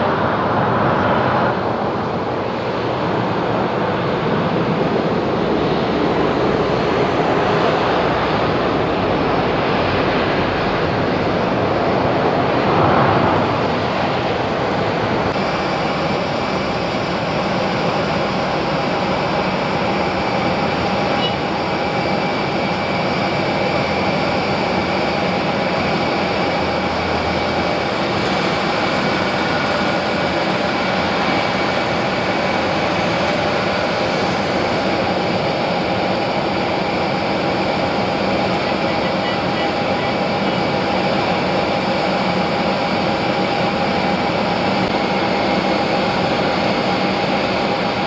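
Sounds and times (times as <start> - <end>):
faint engine whine: 0.0 - 48.0
jet engine rush: 0.0 - 48.0.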